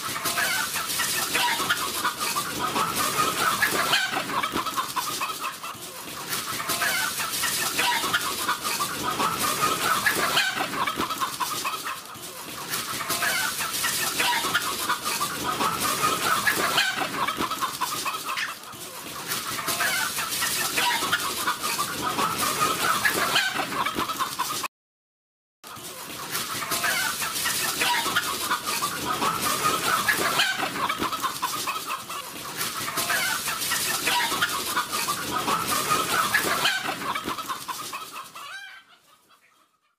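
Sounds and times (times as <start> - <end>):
chickens clucking: 0.0 - 24.7, 25.7 - 39.9.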